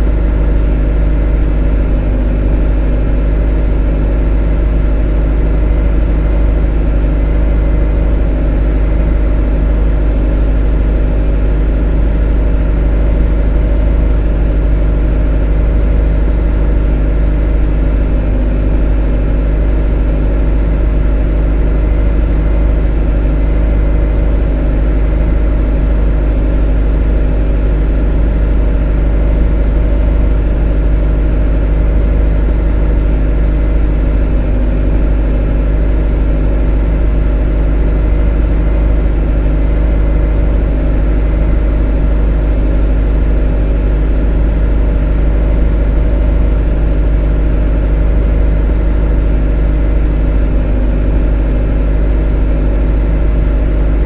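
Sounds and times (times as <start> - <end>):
motor droning: 0.0 - 54.0.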